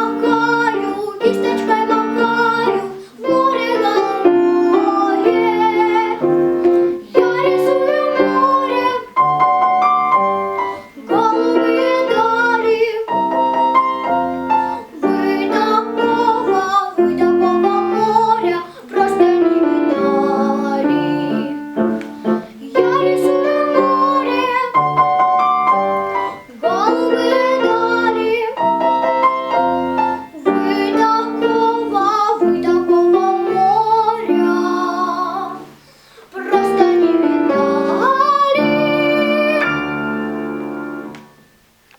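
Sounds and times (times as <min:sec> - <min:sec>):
girl singing: 0:00.0 - 0:41.1
piano accompaniment: 0:00.0 - 0:41.9.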